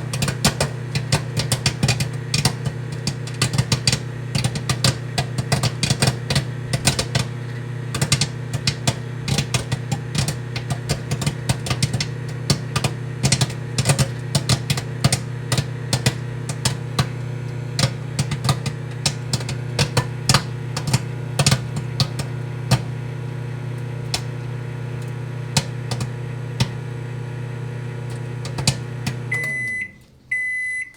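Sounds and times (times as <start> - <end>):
popcorn popping: 0.0 - 30.6
microwave oven humming: 0.0 - 30.9.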